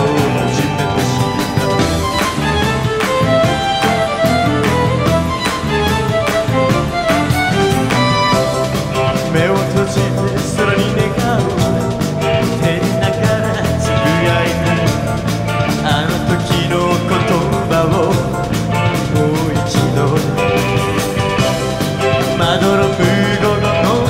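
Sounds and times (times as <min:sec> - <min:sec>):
person singing lead vocal: 0:00.0 - 0:03.8, 0:07.6 - 0:24.0
rock band music: 0:00.0 - 0:24.0.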